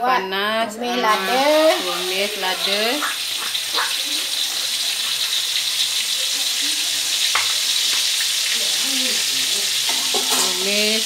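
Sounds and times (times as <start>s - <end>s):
paste sizzling in hot oil: 1.0s - 11.0s.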